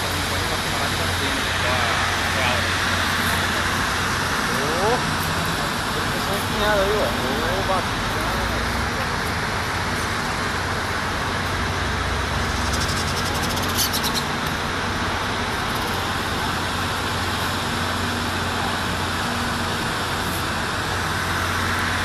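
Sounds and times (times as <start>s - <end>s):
constant low hum: 0.0s - 22.0s
distant road traffic: 0.0s - 22.0s.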